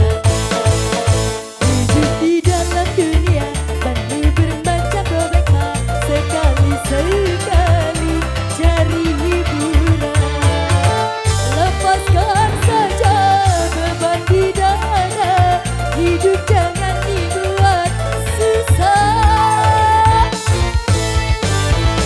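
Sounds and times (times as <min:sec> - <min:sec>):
keyboard band music: 0:00.0 - 0:22.0.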